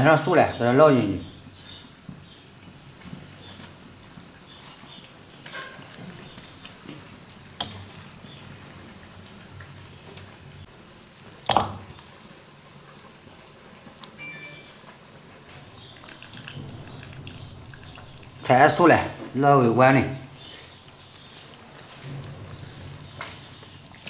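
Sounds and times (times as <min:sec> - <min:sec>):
faint high whine: 0:00.0 - 0:24.0
water boiling: 0:00.0 - 0:24.0.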